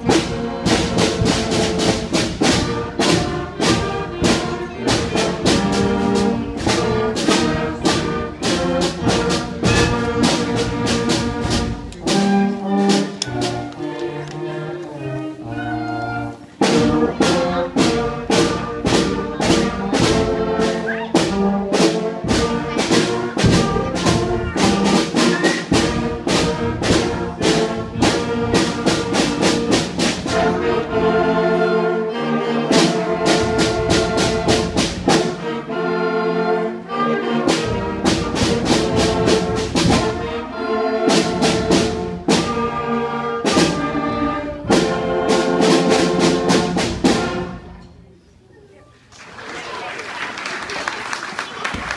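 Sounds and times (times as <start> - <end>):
steady drum beat: 0.0 - 14.2, 16.4 - 31.5, 32.7 - 35.6, 37.3 - 47.8
brass band music: 0.0 - 48.0.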